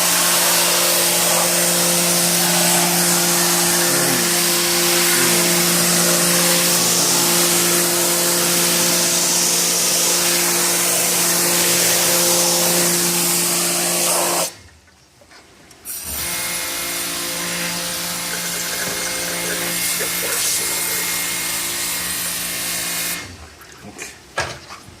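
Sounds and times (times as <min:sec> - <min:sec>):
motor-driven machine humming: 0:00.0 - 0:14.1, 0:16.2 - 0:22.5
loud hiss: 0:00.0 - 0:14.5, 0:16.0 - 0:23.2.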